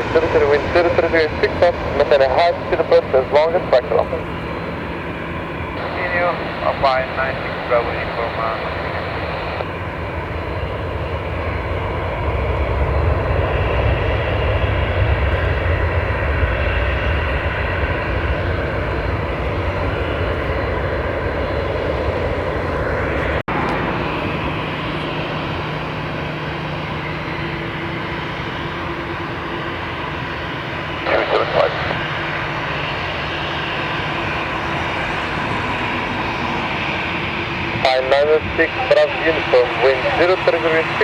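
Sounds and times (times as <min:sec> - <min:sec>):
airliner engines running: 0:00.0 - 0:41.0.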